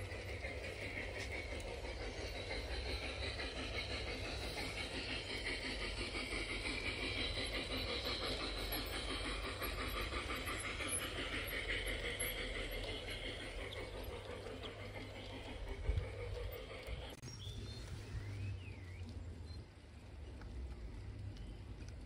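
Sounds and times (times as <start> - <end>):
model train wheels rolling on rails: 0.0 - 22.0
motor hum: 0.0 - 22.0.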